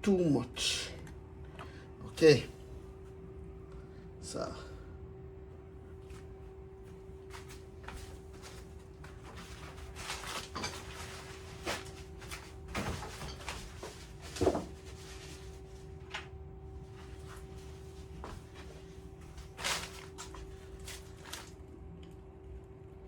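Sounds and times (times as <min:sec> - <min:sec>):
steady electrical hum: 0:00.0 - 0:23.0.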